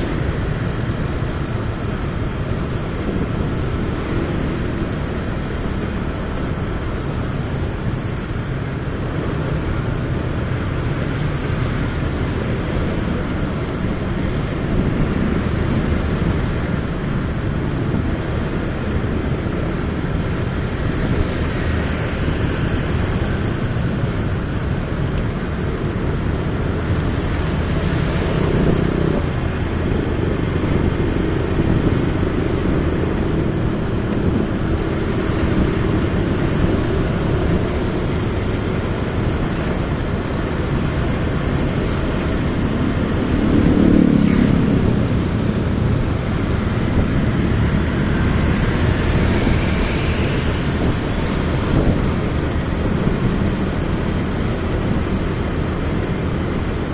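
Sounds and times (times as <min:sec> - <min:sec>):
road and traffic noise: 0:00.0 - 0:56.9.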